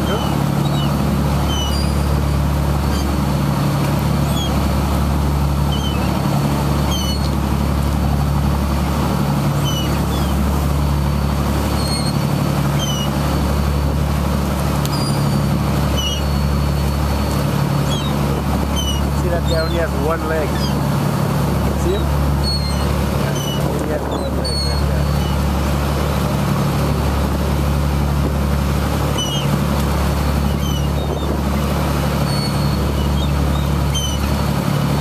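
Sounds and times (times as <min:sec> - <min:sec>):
boat engine droning: 0:00.0 - 0:35.0
gulls crying: 0:00.0 - 0:35.0
rushing wake water: 0:00.0 - 0:35.0.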